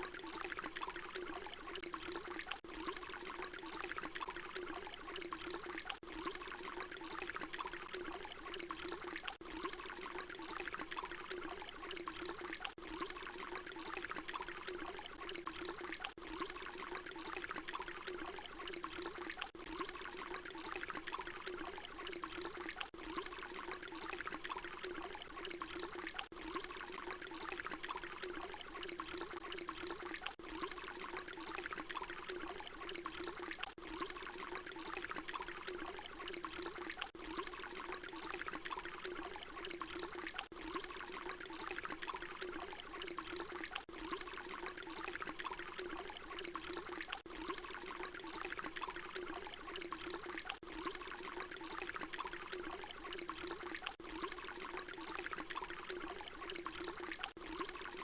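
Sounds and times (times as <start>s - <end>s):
water pouring: 0.0s - 58.0s.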